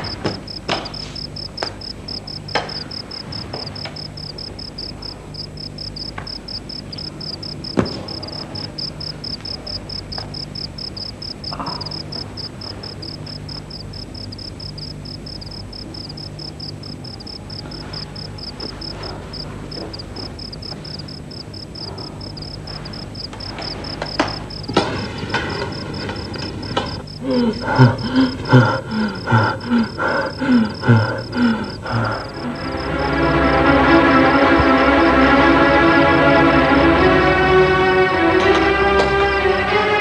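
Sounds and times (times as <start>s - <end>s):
crickets chirping: 0.0s - 38.0s
low steady hum: 0.0s - 38.6s.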